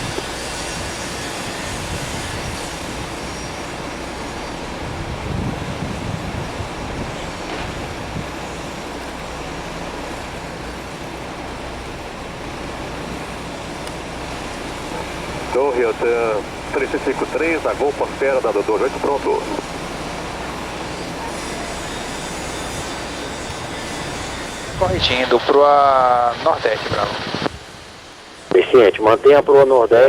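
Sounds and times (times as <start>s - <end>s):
jet airliner engines roaring: 0.0s - 30.0s.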